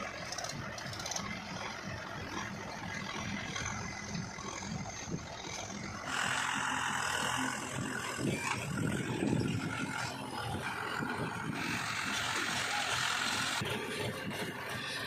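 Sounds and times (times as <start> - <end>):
diesel engines running at low revs: 0.0 - 15.0.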